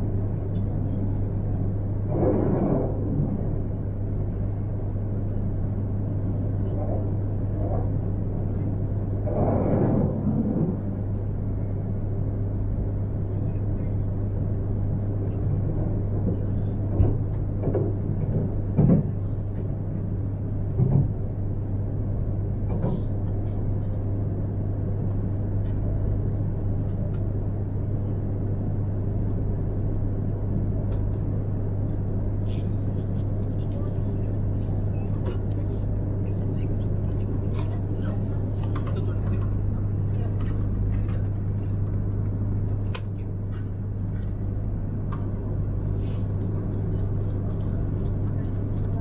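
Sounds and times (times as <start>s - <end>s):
train cabin hum and rumble: 0.0s - 49.0s.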